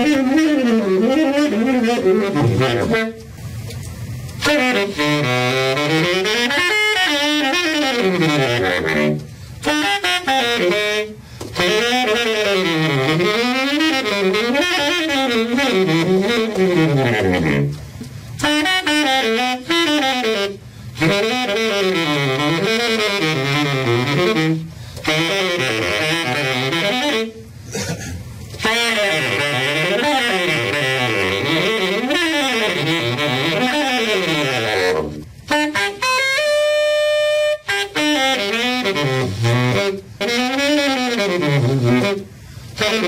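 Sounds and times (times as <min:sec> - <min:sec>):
baritone saxophone jazz solo: 0:00.0 - 0:43.0.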